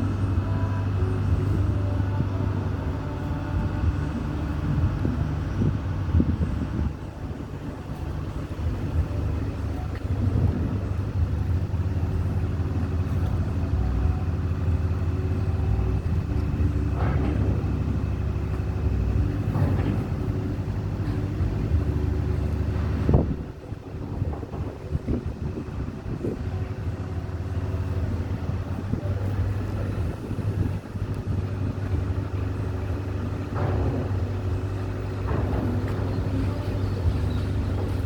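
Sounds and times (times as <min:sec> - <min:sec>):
large engine droning: 0:00.0 - 0:38.0.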